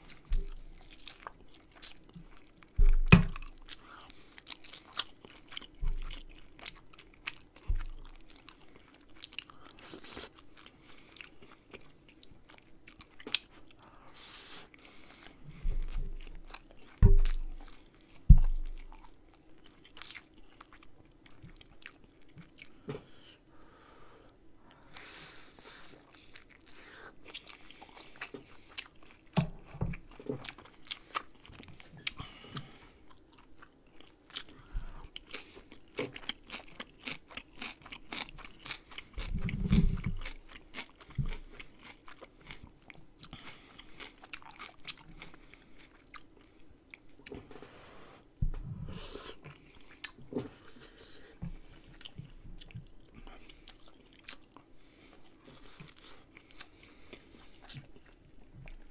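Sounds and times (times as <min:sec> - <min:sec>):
chewing and biting dumplings: 0:00.0 - 0:13.9, 0:14.6 - 0:22.8, 0:24.7 - 0:47.3, 0:48.2 - 0:58.9.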